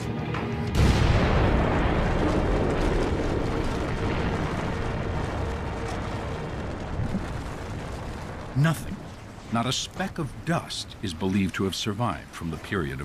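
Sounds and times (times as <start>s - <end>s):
volcanic eruption rumbling: 0.8s - 13.0s.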